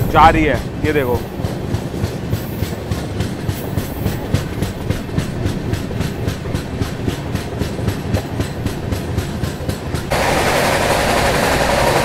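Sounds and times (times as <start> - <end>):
train wheels clacking over rail joints: 0.0 - 12.0.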